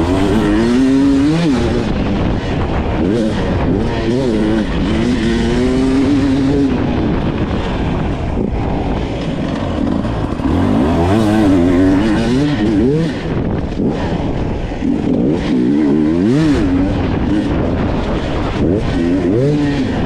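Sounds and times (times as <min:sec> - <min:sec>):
motorcycle engine revving: 0:00.0 - 0:20.0
wind and track noise: 0:00.0 - 0:20.0.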